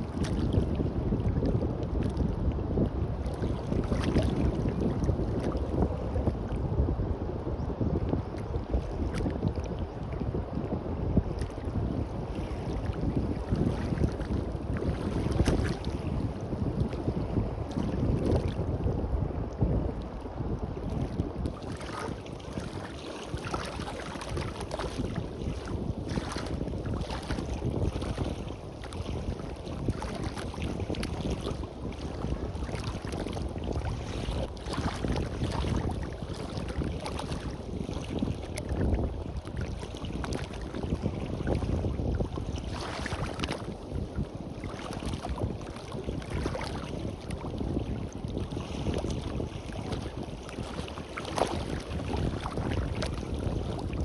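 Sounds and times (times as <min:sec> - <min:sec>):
surf washing on a beach: 0:00.0 - 0:54.0
wind buffeting microphone: 0:00.0 - 0:54.0.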